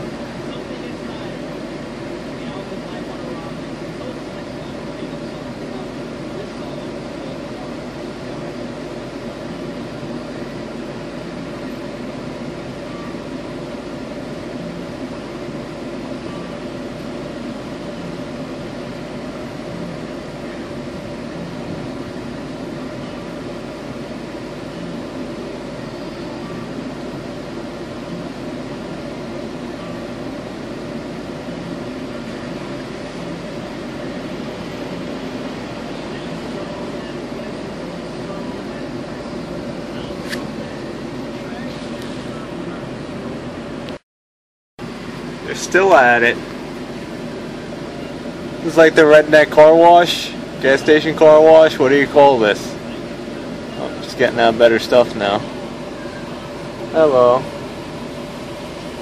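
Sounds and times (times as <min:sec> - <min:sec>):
truck engine idling: 0:00.0 - 0:44.0, 0:44.9 - 0:59.0.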